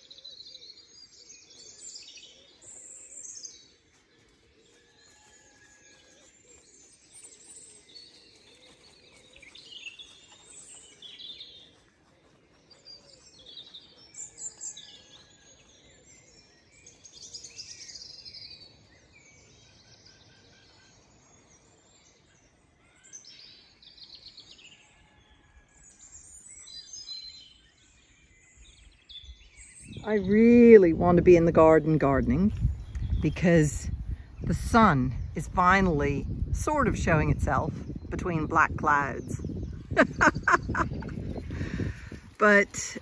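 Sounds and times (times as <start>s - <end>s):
songbirds singing: 0.0s - 43.0s.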